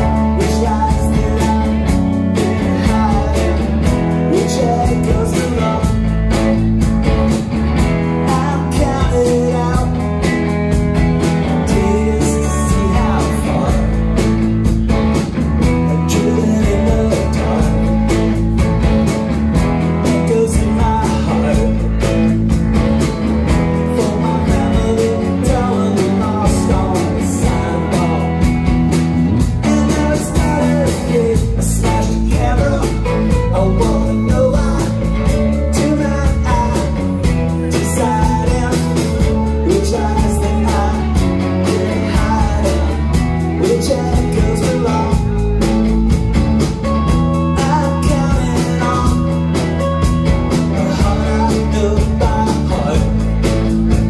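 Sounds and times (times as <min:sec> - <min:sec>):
man singing: 0:00.0 - 0:06.8, 0:08.0 - 0:14.7, 0:15.6 - 0:18.6, 0:19.6 - 0:22.5, 0:23.5 - 0:46.1, 0:47.3 - 0:54.0
rock band playing: 0:00.0 - 0:54.0.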